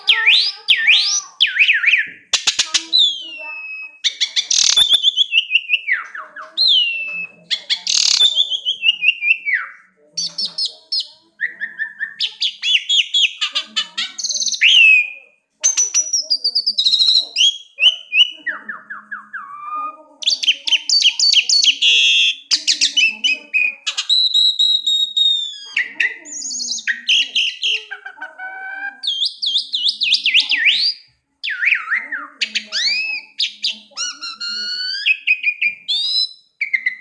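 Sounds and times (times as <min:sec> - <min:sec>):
songbird singing: 0:00.0 - 0:37.0.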